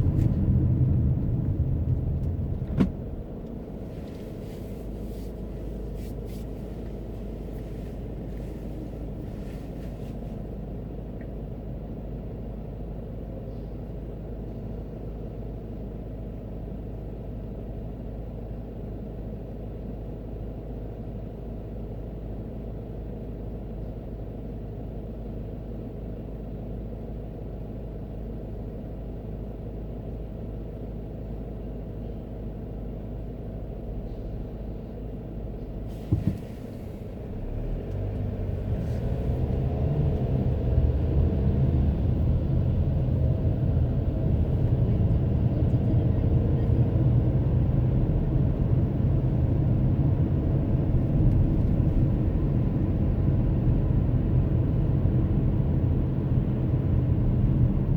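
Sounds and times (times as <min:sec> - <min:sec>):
car driving rumble: 0:00.0 - 0:20.0, 0:29.6 - 0:57.9.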